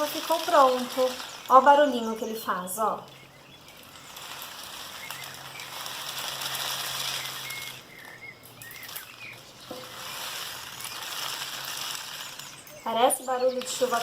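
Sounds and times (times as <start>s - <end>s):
rain stick pattering hiss: 0.0s - 14.0s.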